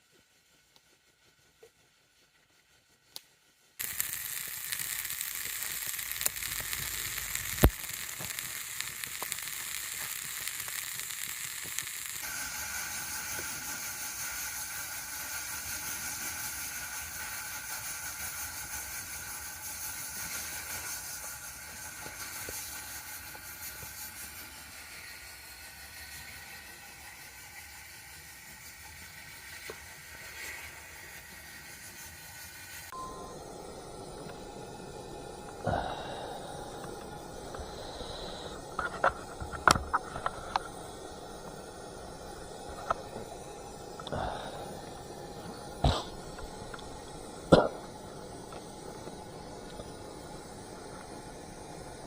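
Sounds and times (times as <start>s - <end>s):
food sizzling in a pan: 3.8s - 52.0s.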